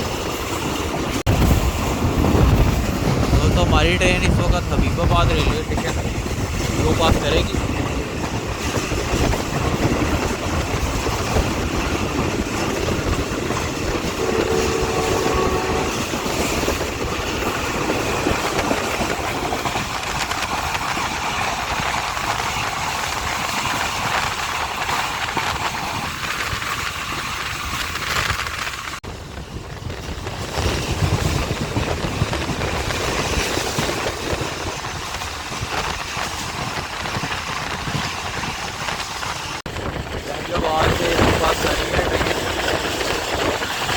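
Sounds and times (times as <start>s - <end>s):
train wheels rumbling and rattling: 0.0s - 43.9s.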